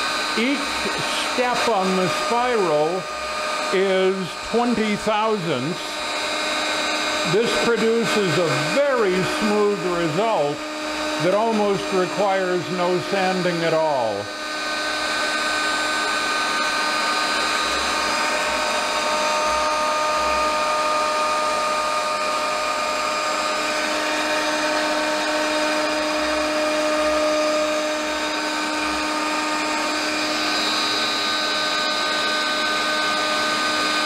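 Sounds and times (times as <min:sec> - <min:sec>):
router spindle whine: 0:00.0 - 0:34.0.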